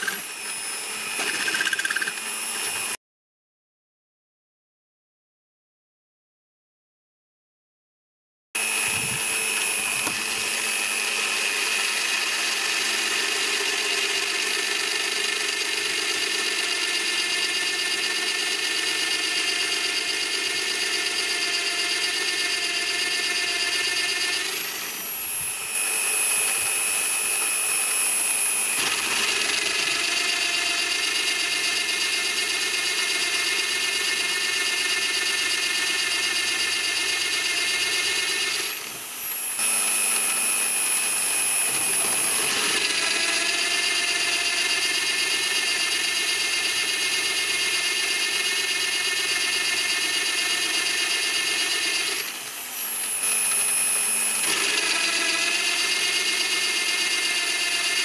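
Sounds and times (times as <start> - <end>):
pillar drill whining: 0.0 - 3.0, 8.6 - 58.0.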